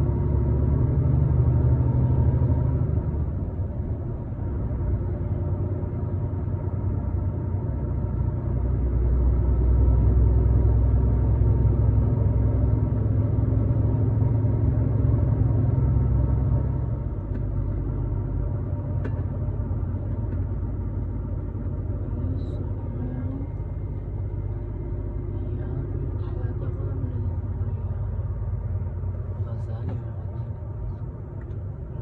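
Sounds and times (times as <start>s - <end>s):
truck engine and road drone: 0.0s - 32.0s.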